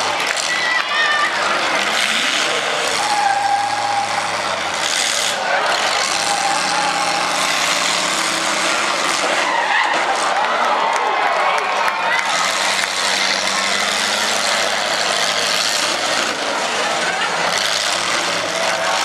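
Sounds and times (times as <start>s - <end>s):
car engines revving hard: 0.0s - 10.7s, 12.0s - 19.0s
tyres spinning and skidding: 0.0s - 19.0s.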